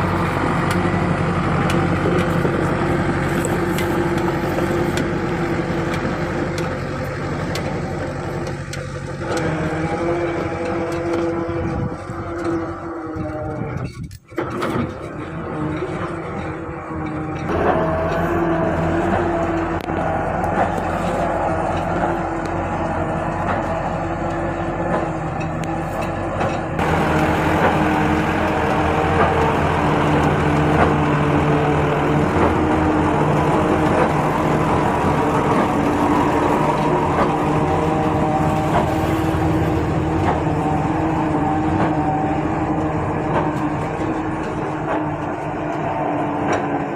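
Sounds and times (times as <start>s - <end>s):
tractor engine droning: 0.0s - 46.9s.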